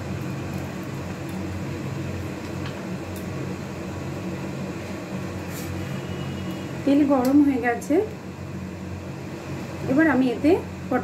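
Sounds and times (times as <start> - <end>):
gas stove hum and hiss: 0.0 - 11.0.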